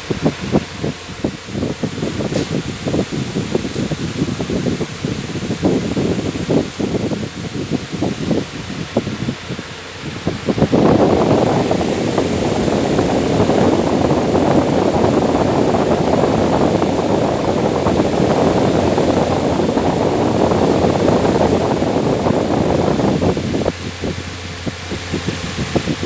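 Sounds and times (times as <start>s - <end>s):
electric fan running: 0.0s - 26.0s.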